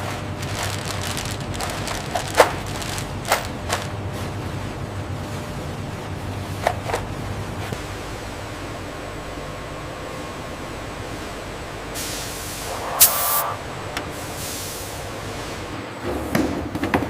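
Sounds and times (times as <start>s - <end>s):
machinery hum: 0.0s - 16.3s.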